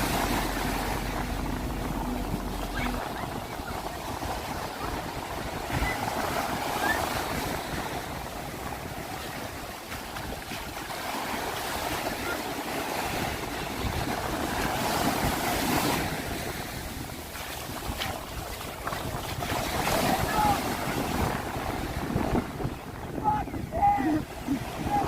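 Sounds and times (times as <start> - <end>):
ocean waves washing in: 0.0 - 25.0
wind buffeting microphone: 0.0 - 25.0.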